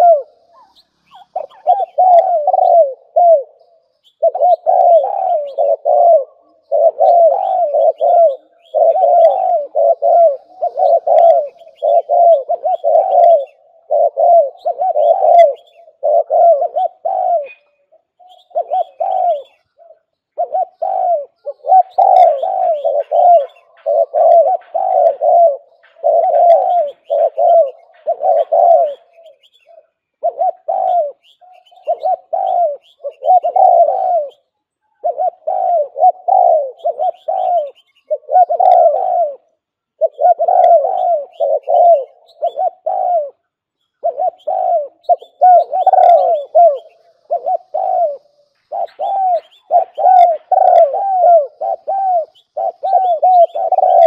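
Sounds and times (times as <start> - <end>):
dove cooing: 0.0 - 54.0
small birds chirping: 0.0 - 54.0.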